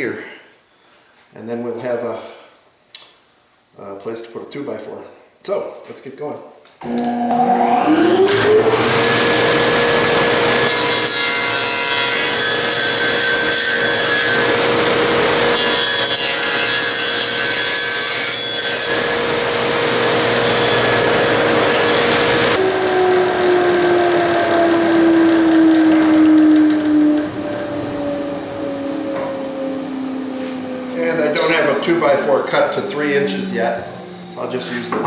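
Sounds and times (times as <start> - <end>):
saw blade coasting down: 6.8 - 35.0
table saw cutting wood: 6.8 - 35.0.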